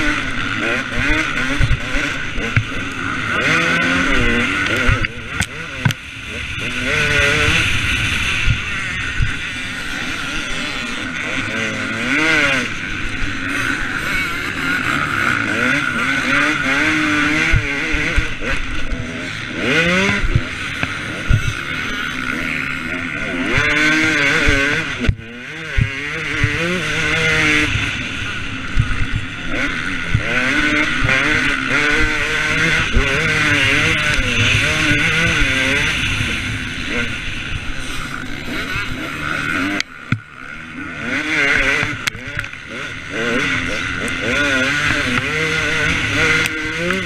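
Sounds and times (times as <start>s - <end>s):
motocross bike engine revving: 0.0s - 47.0s.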